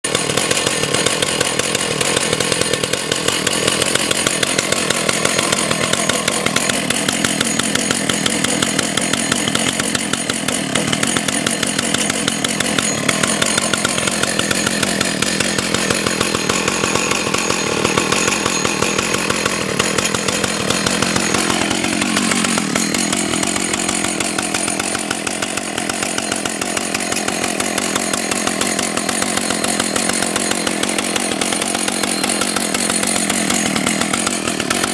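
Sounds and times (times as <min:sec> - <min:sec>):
chainsaw idling: 0:00.0 - 0:34.9.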